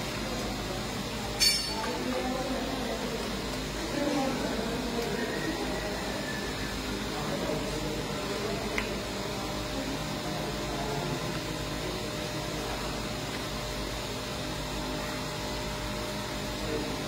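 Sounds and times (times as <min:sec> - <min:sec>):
machinery hum and whir: 0:00.0 - 0:17.0.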